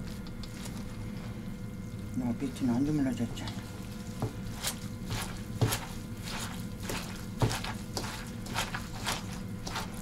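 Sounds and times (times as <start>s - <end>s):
hands mixing radish in a bowl: 0.0s - 10.0s.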